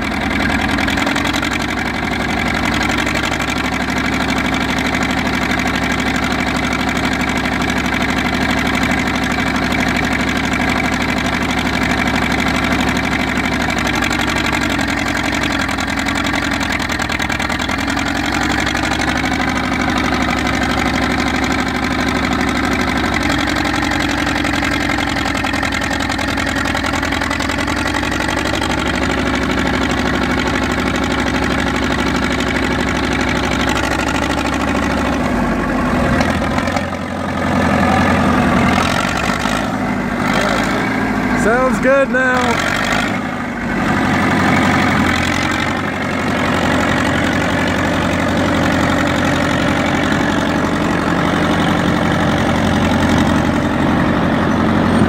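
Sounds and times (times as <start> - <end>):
dozer engine running: 0.0 - 55.0.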